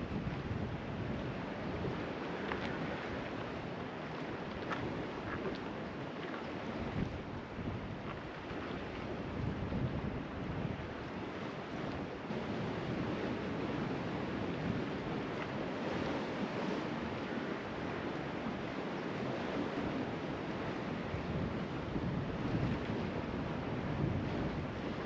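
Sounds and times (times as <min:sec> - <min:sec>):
wind buffeting microphone: 0:00.0 - 0:05.9, 0:06.6 - 0:18.6, 0:19.2 - 0:25.0
sea surf washing on shore: 0:00.0 - 0:25.0.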